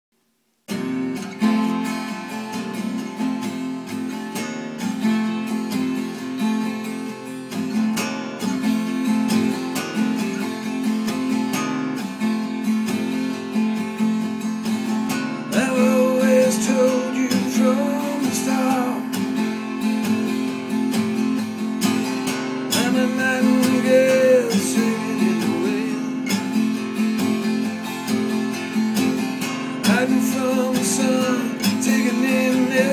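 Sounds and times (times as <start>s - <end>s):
acoustic guitar strumming: 0.7s - 32.9s.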